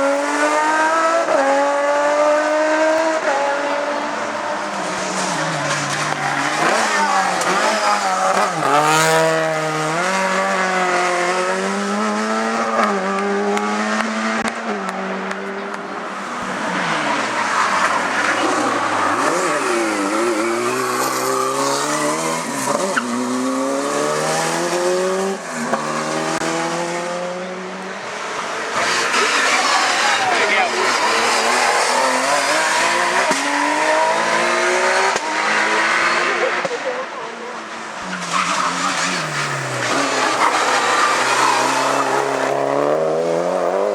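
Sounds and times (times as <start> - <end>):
racing car engines revving hard: 0.0 - 43.9.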